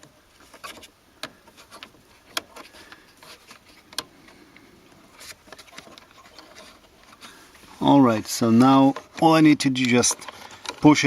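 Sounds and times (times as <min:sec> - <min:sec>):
plastic parts clicking and rubbing: 0:00.0 - 0:11.0.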